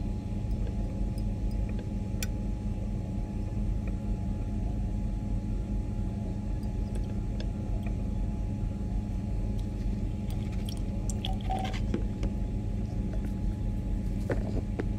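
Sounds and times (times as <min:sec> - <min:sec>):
faint constant tone: 0:00.0 - 0:14.9
ventilation hum: 0:00.0 - 0:14.9.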